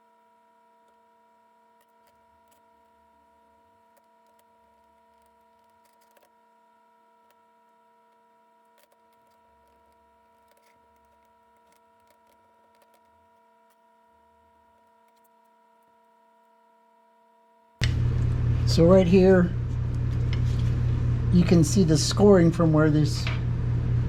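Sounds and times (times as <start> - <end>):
faint electrical hum: 0.0 - 24.0.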